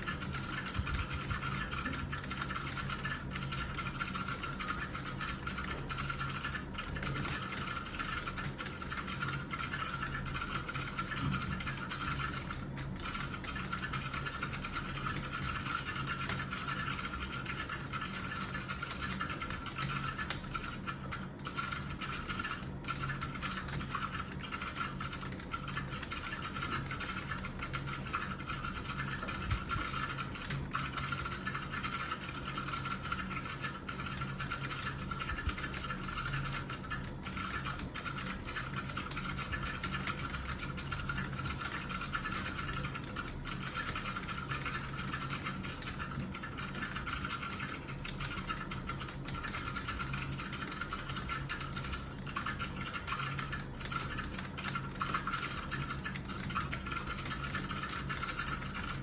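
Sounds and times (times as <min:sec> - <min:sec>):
fast keyboard typing: 0:00.0 - 0:59.0.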